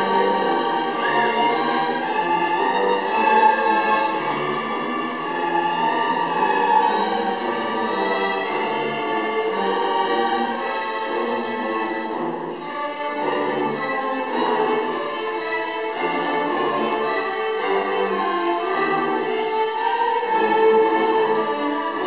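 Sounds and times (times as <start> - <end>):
string orchestra playing: 0.0 - 22.0.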